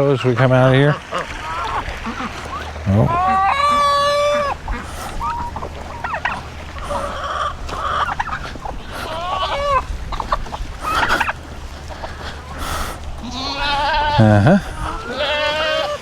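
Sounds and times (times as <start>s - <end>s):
chickens clucking and squawking: 0.0s - 16.0s.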